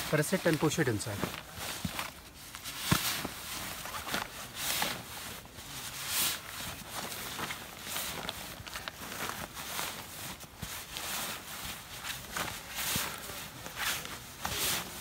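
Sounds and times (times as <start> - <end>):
sleeping bag rustling: 0.0 - 15.0.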